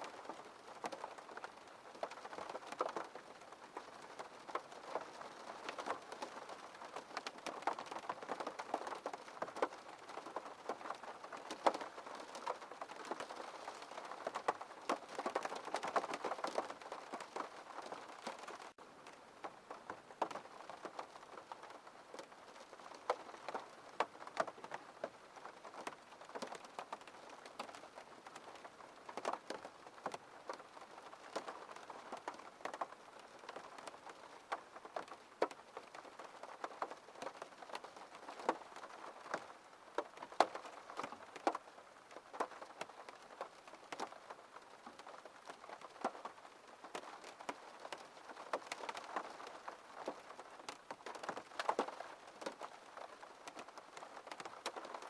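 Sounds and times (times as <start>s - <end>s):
rain tapping on window glass: 0.0s - 55.0s.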